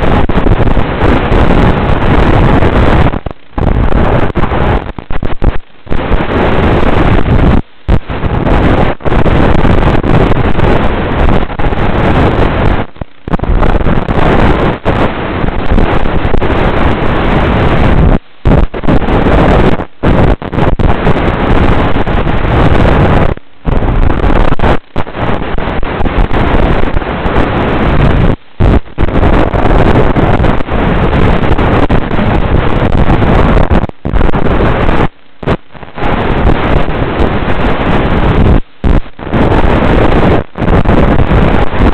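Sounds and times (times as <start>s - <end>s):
loud steady rushing hiss: 0.0s - 41.9s.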